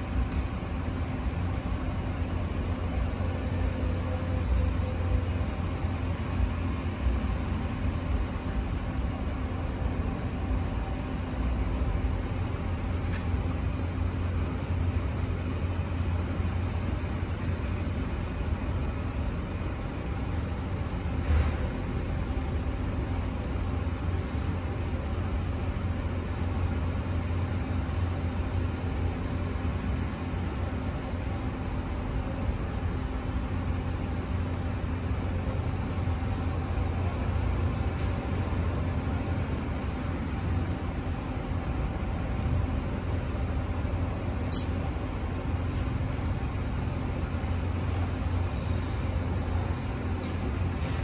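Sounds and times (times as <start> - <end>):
low urban rumble with hiss: 0.0 - 51.0.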